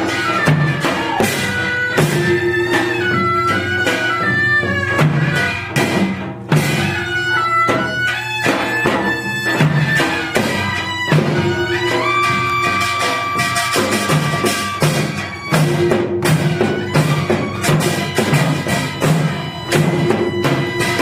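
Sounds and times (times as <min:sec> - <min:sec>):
drum strokes: 0:00.0 - 0:21.0
wind instrument melody: 0:00.0 - 0:21.0.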